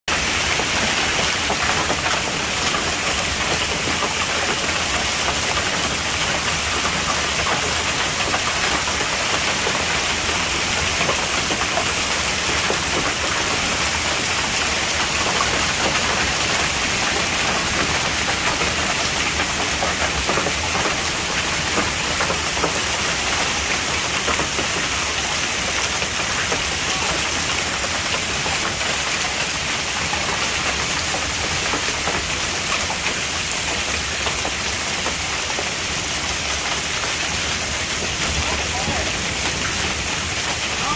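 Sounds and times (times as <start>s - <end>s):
hail and rain pelting: 0.1s - 40.9s.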